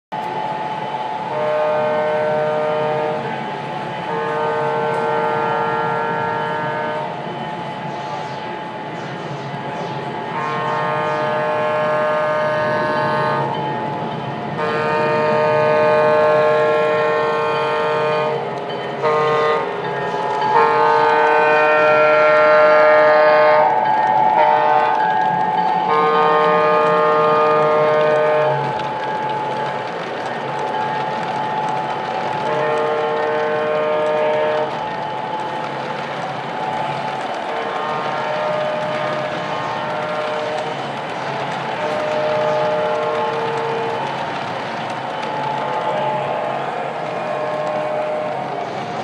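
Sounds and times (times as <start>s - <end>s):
hum and rumble of model layout: 0.2s - 49.0s
model locomotive horn blasts: 1.2s - 3.4s, 4.0s - 7.2s, 10.3s - 13.7s, 14.6s - 31.8s, 32.4s - 35.5s, 36.8s - 48.6s.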